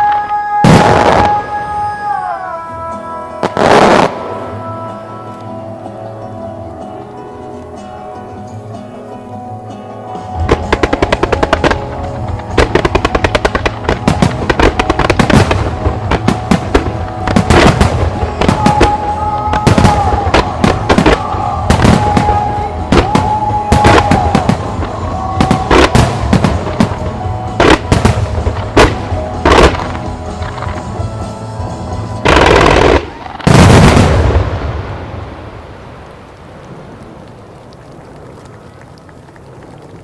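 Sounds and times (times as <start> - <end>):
fireworks bursts: 0.0 - 2.8, 3.4 - 5.6, 10.2 - 40.0
music playing: 0.0 - 35.0.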